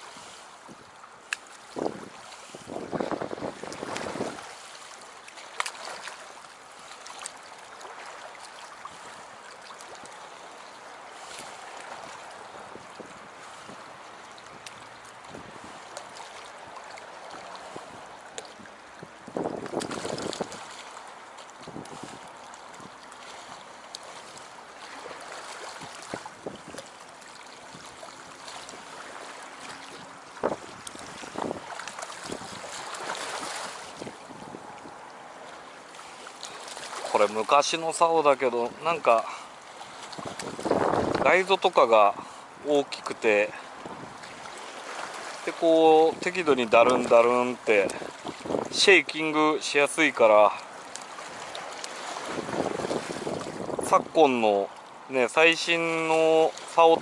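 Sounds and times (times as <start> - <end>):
water lapping against shore: 0.0 - 57.0.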